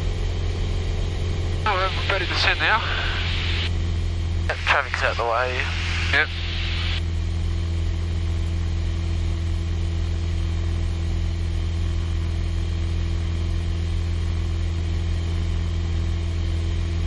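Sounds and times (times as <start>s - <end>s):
airplane engine drone in cabin: 0.0s - 17.0s.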